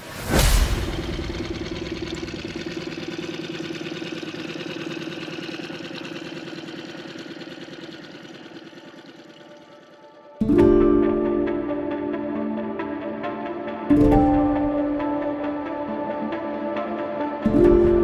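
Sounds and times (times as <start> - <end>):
outboard motor running: 0.2 - 18.0.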